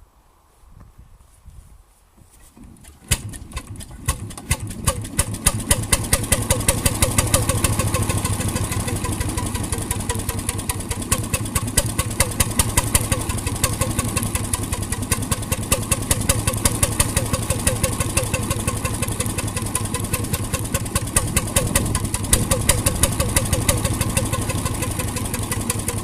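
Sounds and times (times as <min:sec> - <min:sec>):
marine engine starting: 0:02.7 - 0:26.0.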